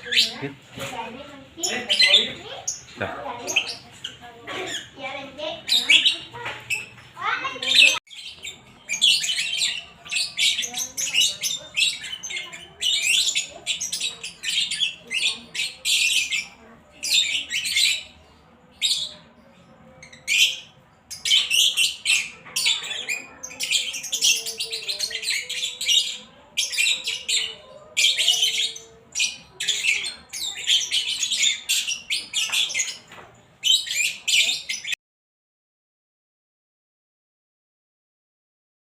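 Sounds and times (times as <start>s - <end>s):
lovebird chirping and chattering: 0.0s - 35.0s.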